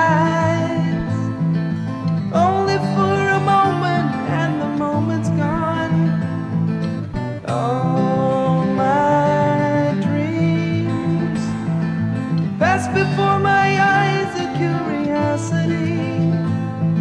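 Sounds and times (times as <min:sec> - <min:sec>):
fingerpicked acoustic guitar: 0:00.0 - 0:17.0.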